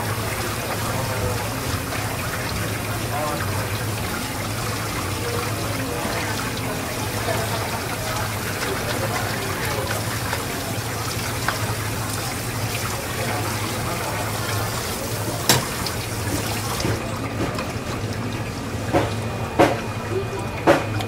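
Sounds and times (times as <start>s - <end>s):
water running from a hose: 0.0s - 21.0s.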